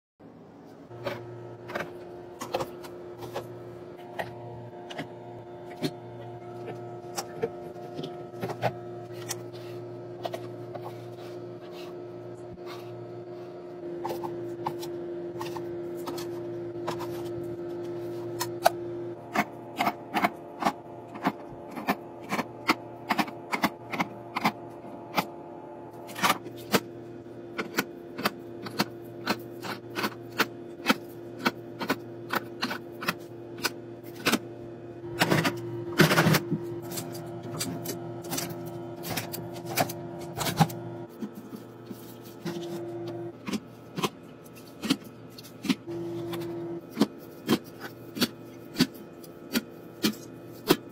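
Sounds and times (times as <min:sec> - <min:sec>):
steady low hum: 0:00.3 - 0:50.9.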